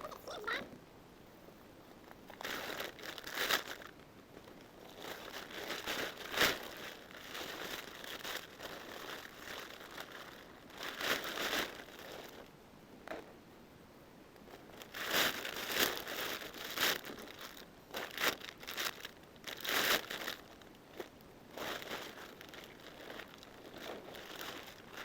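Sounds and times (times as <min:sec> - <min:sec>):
crinkling and rustling: 0:01.8 - 0:13.4, 0:14.4 - 0:25.0.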